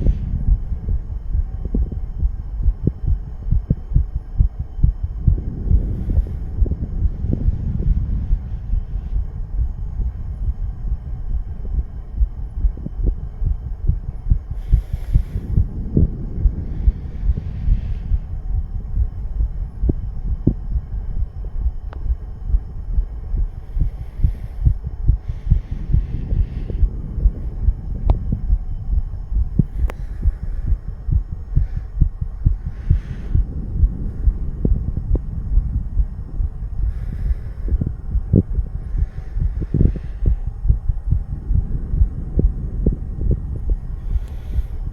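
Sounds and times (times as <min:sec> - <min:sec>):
heartbeat thumps: 0:00.0 - 0:44.9.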